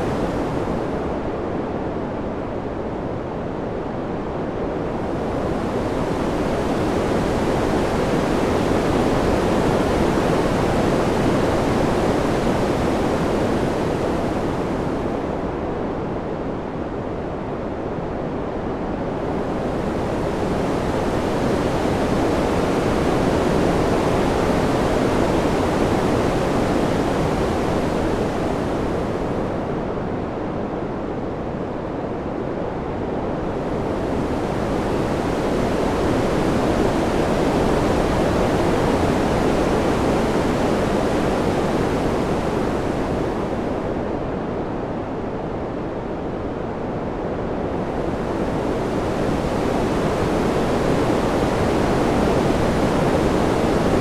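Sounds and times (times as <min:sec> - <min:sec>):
rushing wind: 0:00.0 - 0:54.0.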